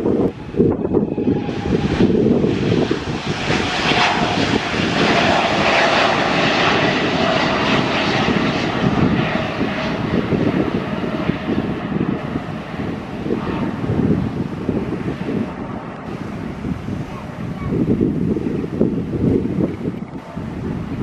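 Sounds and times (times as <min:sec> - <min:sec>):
faint jet whine: 0:00.0 - 0:21.0
jet engine roar: 0:00.0 - 0:21.0.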